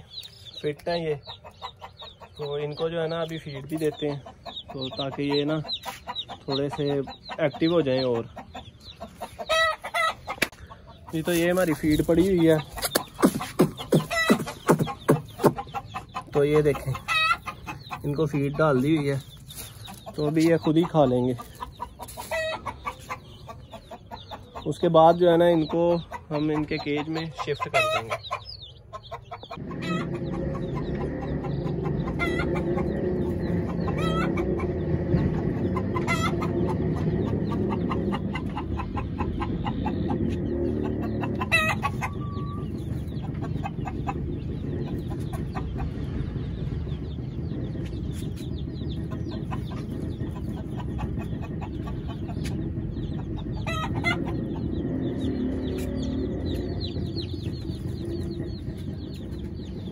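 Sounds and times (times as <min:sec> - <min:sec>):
chickens clucking: 0:00.0 - 0:59.9
chicks peeping: 0:00.0 - 0:59.9.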